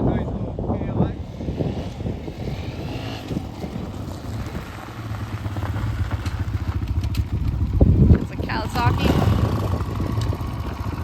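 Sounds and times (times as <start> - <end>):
dirt bike engine idling: 1.2 - 11.0.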